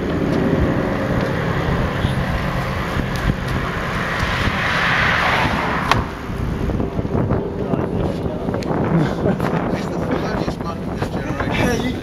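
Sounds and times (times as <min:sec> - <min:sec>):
bicycle rumble and rattle: 0:00.0 - 0:12.0
wind buffeting microphone: 0:00.0 - 0:12.0.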